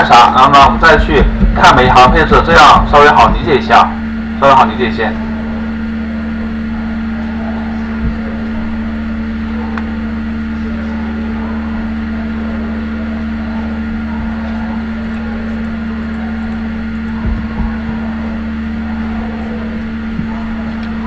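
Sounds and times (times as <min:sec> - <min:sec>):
electrical hum and hiss: 0:00.0 - 0:21.0.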